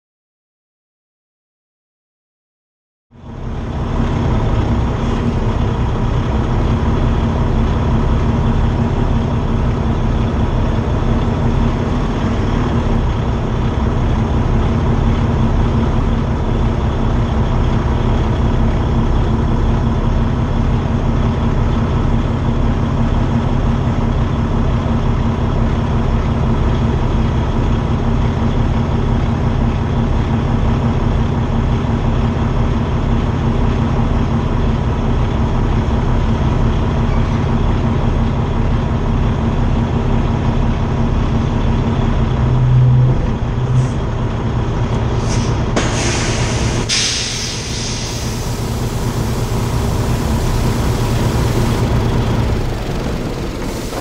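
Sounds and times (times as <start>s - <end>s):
diesel truck engine running: 3.1s - 54.0s.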